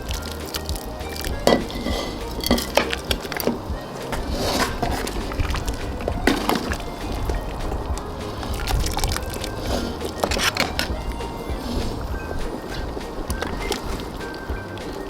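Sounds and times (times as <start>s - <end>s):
dishes and utensils clinking: 0.0s - 15.0s.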